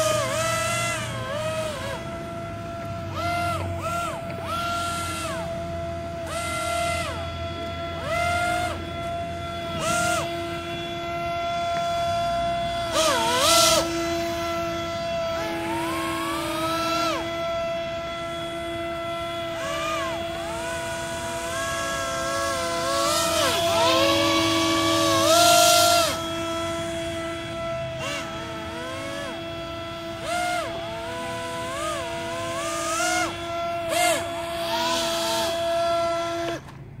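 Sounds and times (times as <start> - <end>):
hovercraft motors whining: 0.0 - 37.0.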